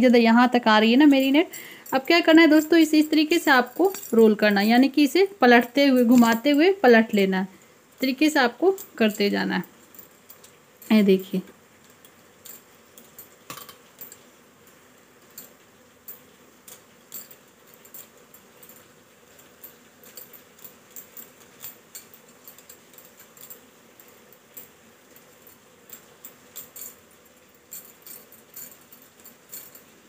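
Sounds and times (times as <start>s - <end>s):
bangles clinking: 0.6s - 30.0s.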